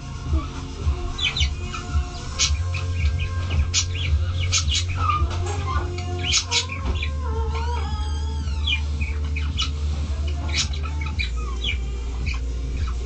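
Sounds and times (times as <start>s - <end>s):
small animals chirping and squeaking: 0.0s - 13.0s
steady low hum: 0.0s - 13.0s.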